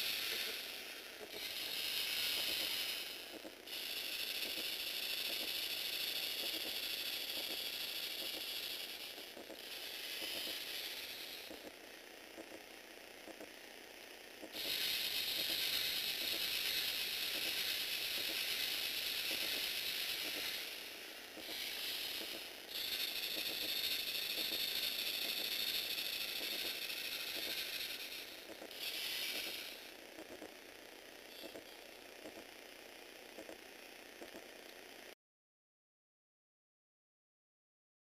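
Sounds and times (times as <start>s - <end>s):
motors and gears whirring: 0.0s - 35.2s.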